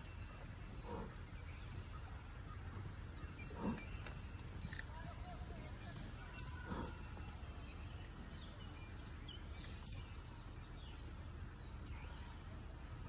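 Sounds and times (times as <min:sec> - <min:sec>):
faint bird chirps: 0:00.0 - 0:13.0
low outdoor rumble: 0:00.0 - 0:13.0.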